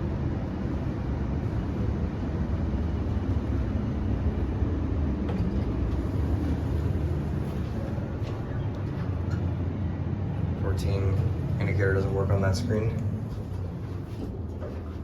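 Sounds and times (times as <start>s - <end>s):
low machinery rumble: 0.0s - 15.0s.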